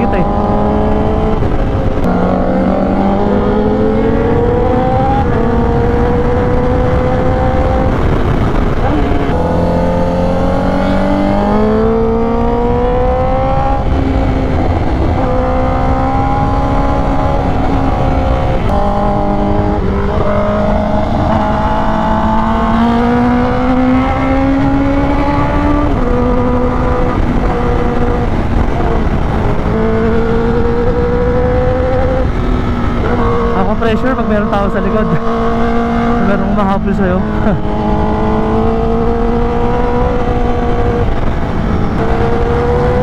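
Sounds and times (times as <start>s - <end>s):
motorcycle engine revving: 0.0s - 43.0s
wind rushing: 0.0s - 43.0s.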